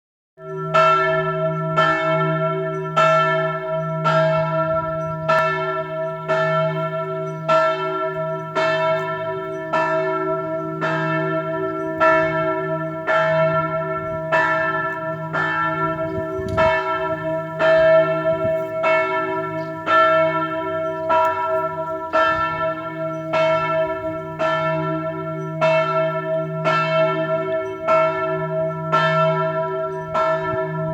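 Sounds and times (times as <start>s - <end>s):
church bell tolling: 0.4s - 30.9s.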